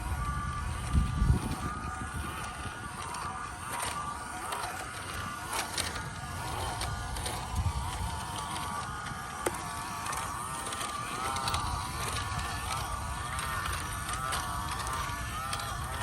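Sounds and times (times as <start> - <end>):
electric motor and gearbox whining: 0.0 - 16.0.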